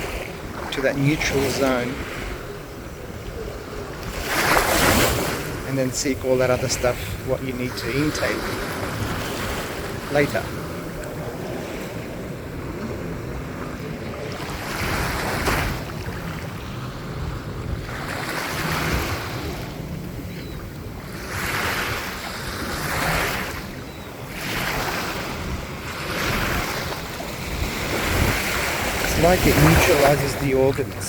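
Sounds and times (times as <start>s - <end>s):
small waves washing: 0.0s - 31.0s
wind rumbling on microphone: 0.0s - 31.0s.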